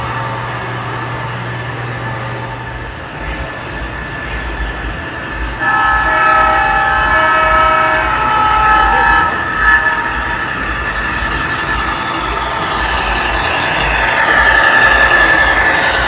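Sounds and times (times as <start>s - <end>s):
diesel air horn chord: 0.0s - 16.0s
diesel engine running: 0.0s - 16.0s.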